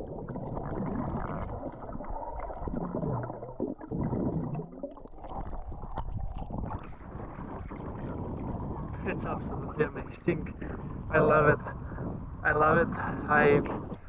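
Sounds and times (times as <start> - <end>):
underwater gurgling and sloshing: 0.0 - 14.0.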